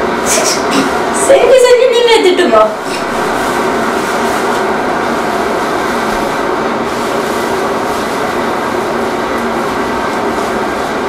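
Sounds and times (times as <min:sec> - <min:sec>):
loud steady rushing noise: 0:00.0 - 0:11.0.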